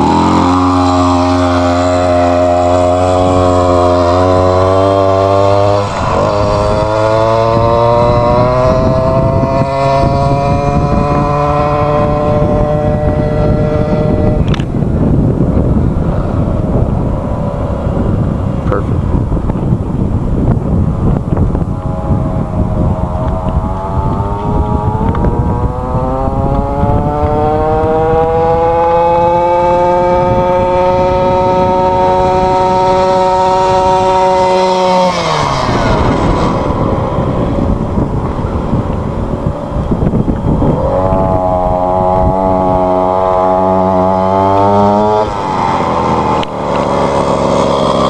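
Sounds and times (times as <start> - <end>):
scooter engine at high revs: 0.0 - 48.0
wind noise on microphone: 0.0 - 48.0.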